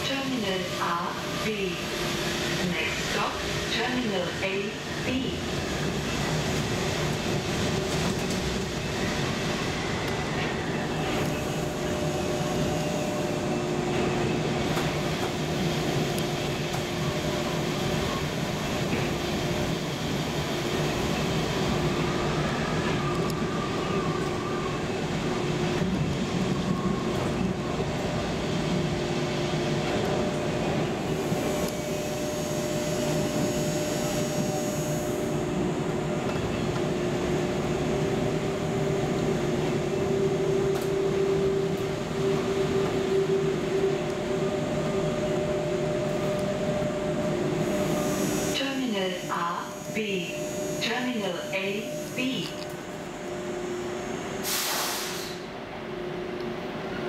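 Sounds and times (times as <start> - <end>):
monorail rumble: 0.0 - 57.0.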